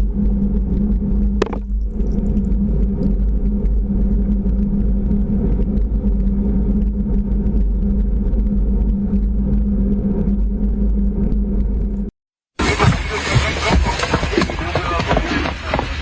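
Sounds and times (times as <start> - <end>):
car engine rumble: 0.0 - 16.0
constant hum: 0.0 - 16.0.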